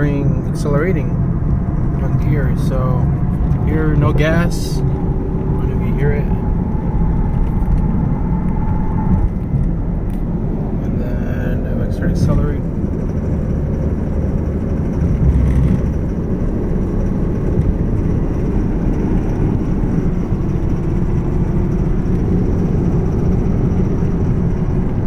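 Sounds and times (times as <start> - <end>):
car engine accelerating: 0.0 - 25.0
rattle under acceleration: 0.0 - 25.0.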